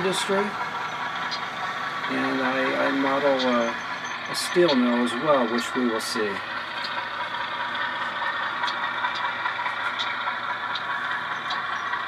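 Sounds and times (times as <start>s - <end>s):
model locomotive diesel engine sound: 0.0s - 12.0s.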